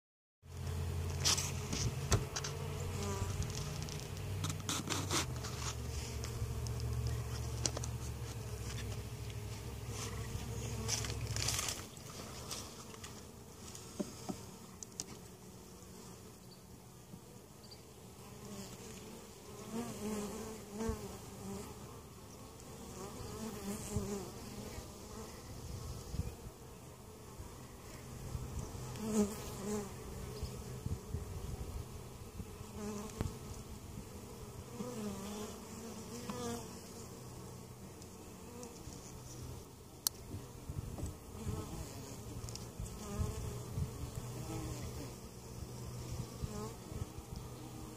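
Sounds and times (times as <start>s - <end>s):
honey bees buzzing: 0.5s - 47.9s.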